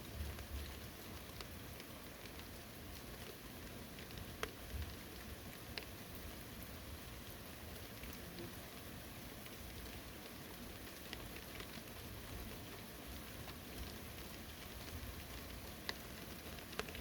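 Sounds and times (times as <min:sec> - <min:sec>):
faint rain falling on forest: 0:00.0 - 0:17.0
raindrops ticking: 0:00.0 - 0:17.0.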